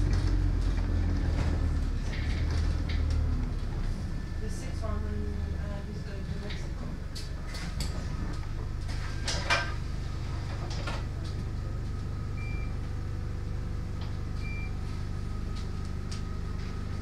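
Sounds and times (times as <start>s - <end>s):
bus interior hum: 0.0s - 17.0s.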